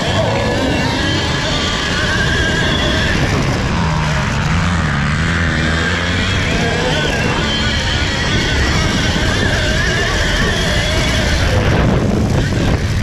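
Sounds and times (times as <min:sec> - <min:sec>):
electric motor whining: 0:00.0 - 0:13.0
wind rumbling on camera: 0:00.0 - 0:13.0.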